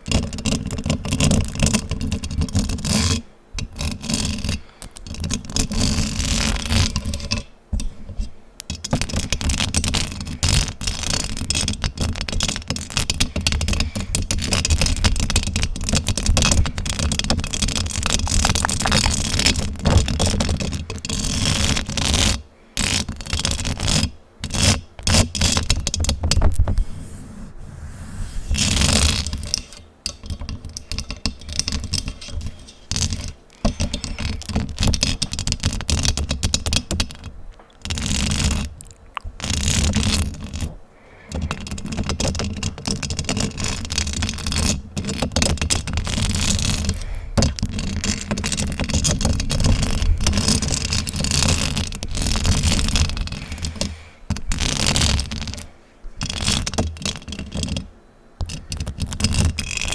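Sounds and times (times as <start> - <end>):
fingers scratching on a microphone: 0.0 - 59.9.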